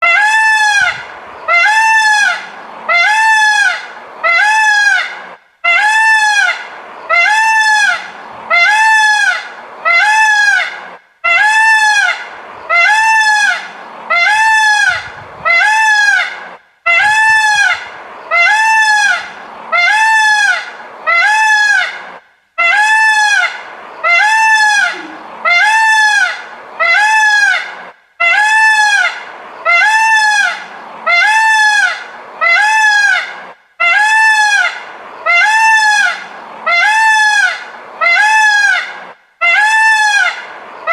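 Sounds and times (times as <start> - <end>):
peacock calling: 0.0 - 40.9.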